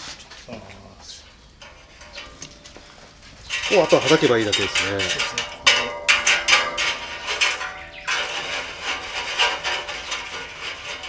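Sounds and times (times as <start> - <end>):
metal rattling and scraping: 1.4 - 11.0
metal grill clanking on bowl: 1.6 - 11.0.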